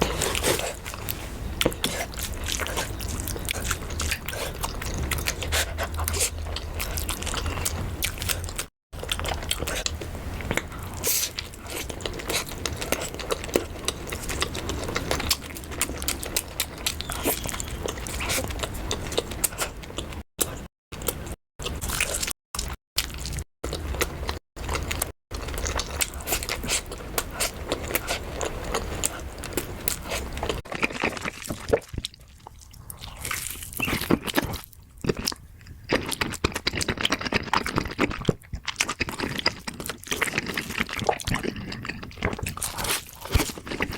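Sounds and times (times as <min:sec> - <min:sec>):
close chewing and crunching: 0:00.0 - 0:43.9.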